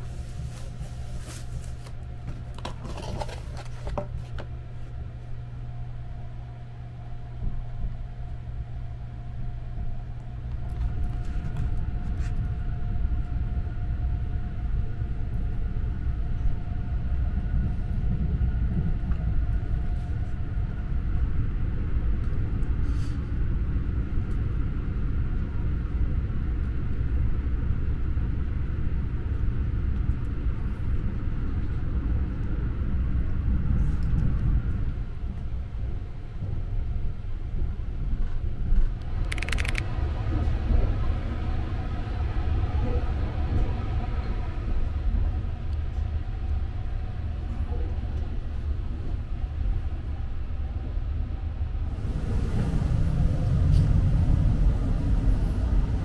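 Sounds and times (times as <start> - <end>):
faint steady hum: 0.0 - 56.0
train running low rumble: 0.0 - 56.0.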